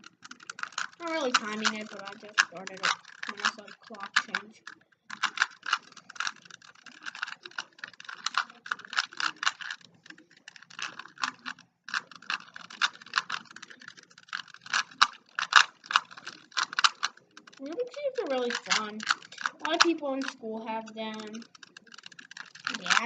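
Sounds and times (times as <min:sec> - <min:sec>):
puzzle cube plastic clicks: 0:00.0 - 0:23.0.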